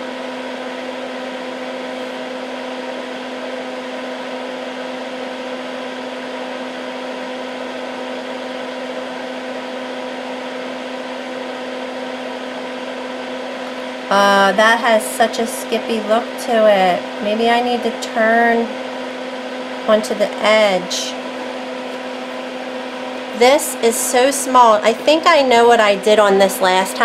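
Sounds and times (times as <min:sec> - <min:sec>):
fume extractor fan running: 0:00.0 - 0:27.0.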